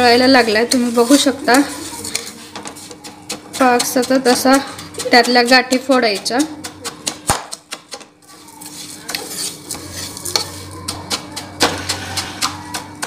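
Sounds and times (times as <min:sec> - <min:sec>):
spatula scraping in pan: 0:00.0 - 0:13.0.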